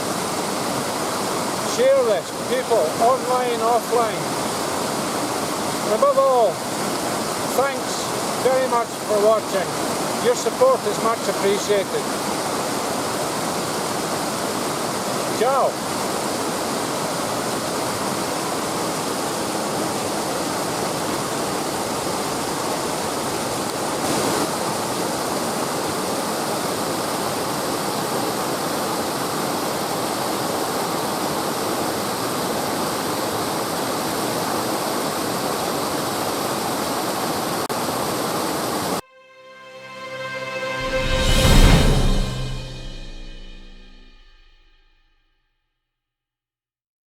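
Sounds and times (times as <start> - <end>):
stream rushing: 0.0 - 39.0.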